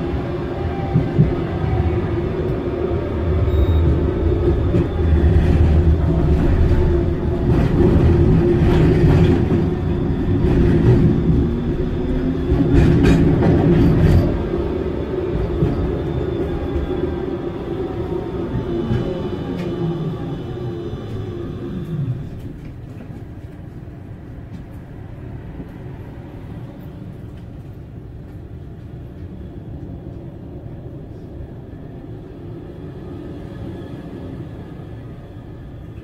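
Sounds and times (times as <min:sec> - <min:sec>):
tram hum: 0:00.0 - 0:36.0
tram wheels rumbling on rails: 0:00.0 - 0:36.0.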